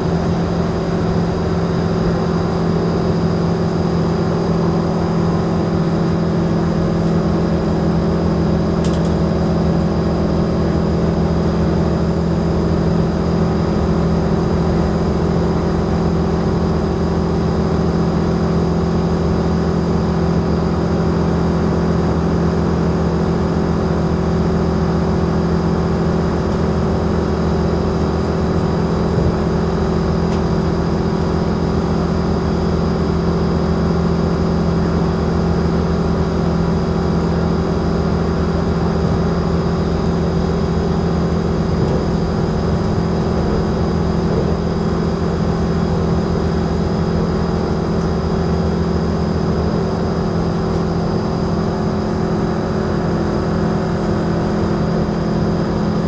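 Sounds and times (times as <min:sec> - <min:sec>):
train drivetrain hum: 0:00.0 - 0:56.0
train rumbling along track: 0:00.0 - 0:56.0.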